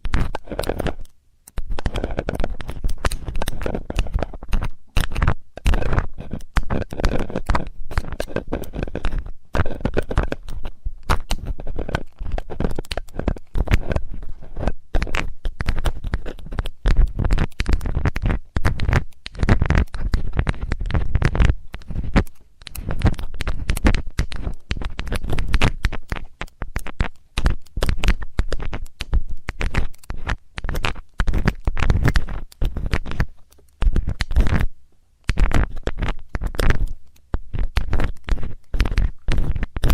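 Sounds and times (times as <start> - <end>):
metal tool scratching microphone: 0.1 - 34.7.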